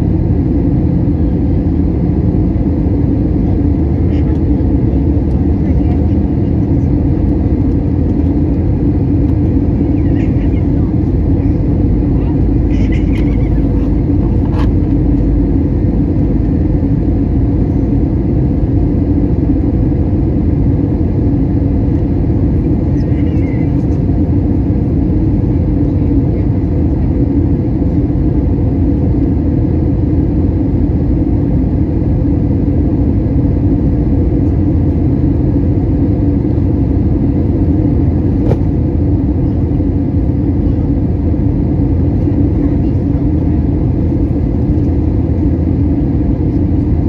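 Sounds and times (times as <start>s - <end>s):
airliner cabin rumble: 0.0s - 47.0s.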